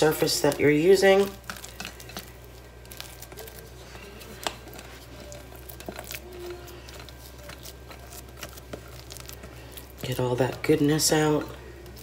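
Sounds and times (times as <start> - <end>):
spatula scraping dough: 0.0 - 12.0.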